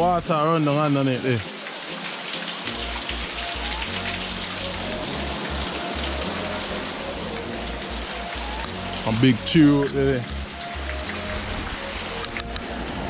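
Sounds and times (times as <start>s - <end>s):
background music with bass line: 0.0s - 2.1s, 2.7s - 13.0s
stream water over stones: 0.0s - 13.0s.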